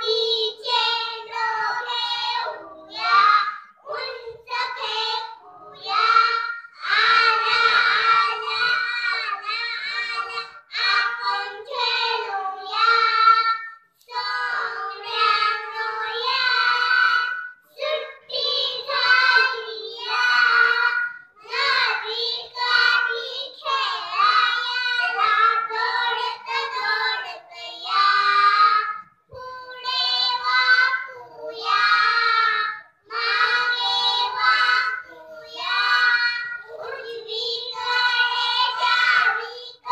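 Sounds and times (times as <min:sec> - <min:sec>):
girls singing into microphone: 0:00.0 - 0:39.9.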